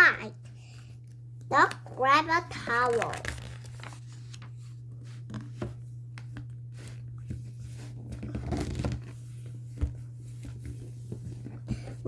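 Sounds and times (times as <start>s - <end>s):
low electrical hum: 0.0s - 12.0s
paper rustling: 1.6s - 12.0s.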